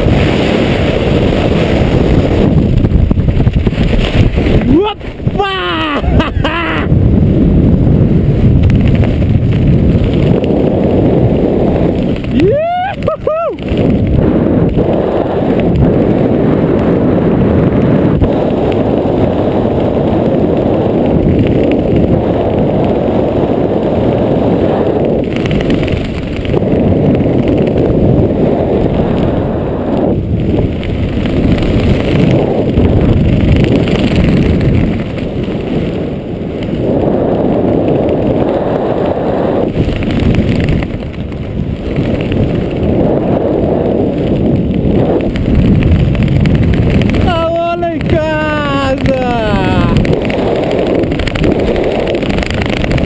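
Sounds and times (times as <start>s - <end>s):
wind rushing past microphone: 0.0s - 53.0s.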